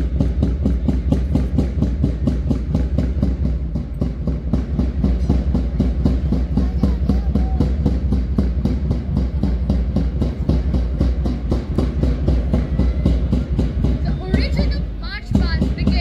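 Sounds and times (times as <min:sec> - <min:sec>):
low steady rumble: 0:00.0 - 0:16.0
marching drums beating: 0:00.0 - 0:16.0.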